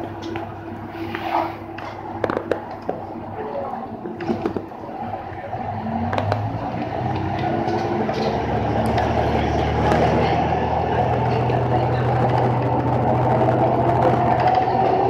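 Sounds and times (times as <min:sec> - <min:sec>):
diesel railcar engine droning: 0:00.0 - 0:15.0.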